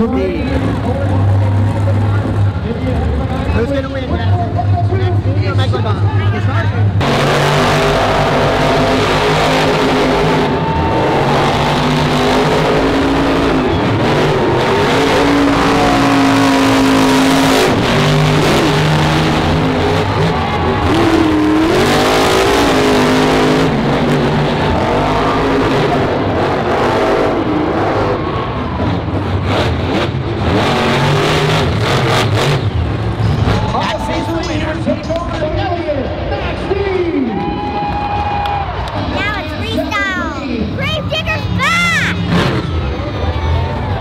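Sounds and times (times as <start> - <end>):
truck engines revving: 0.0 - 44.0.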